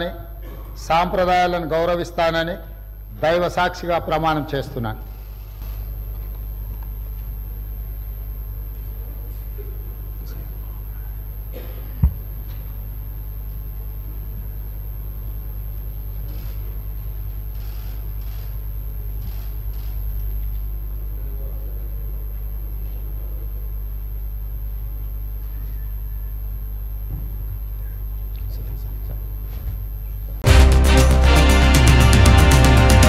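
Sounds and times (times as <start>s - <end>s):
low room hum: 0.0s - 33.0s.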